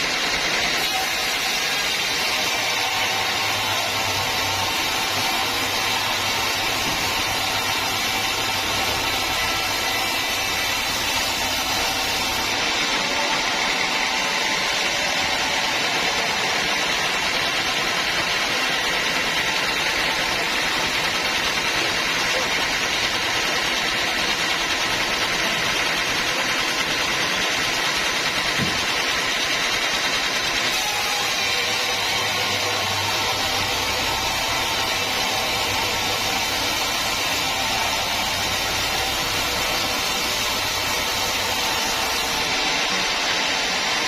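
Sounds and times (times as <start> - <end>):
sawmill machinery running: 0.0 - 44.0.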